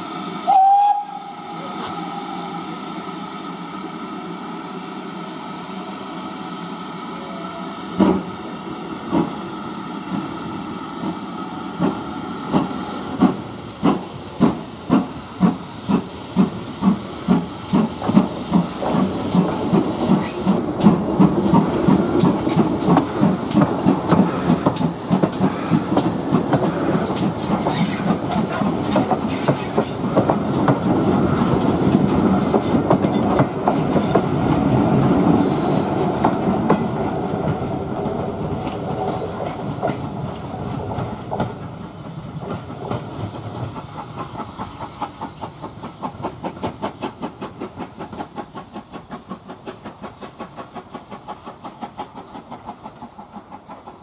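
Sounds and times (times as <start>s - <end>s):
steam hiss: 0.0s - 54.0s
steam locomotive exhaust chuffs: 0.0s - 54.0s.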